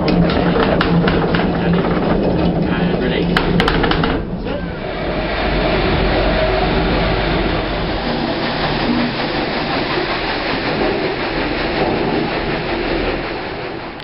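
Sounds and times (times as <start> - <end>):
watermill machinery rattling rumble: 0.0 - 14.0.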